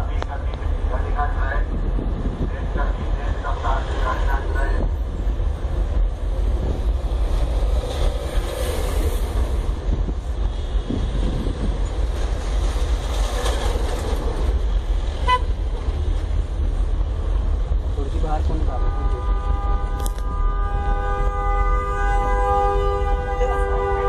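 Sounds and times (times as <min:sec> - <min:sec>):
vehicle engine rumble: 0:00.0 - 0:23.8
road noise: 0:00.0 - 0:24.0.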